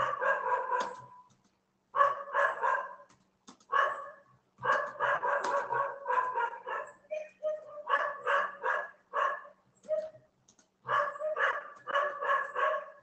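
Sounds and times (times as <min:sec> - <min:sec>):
dogs barking: 0:00.0 - 0:01.3, 0:02.0 - 0:03.1, 0:03.7 - 0:10.2, 0:10.8 - 0:13.0.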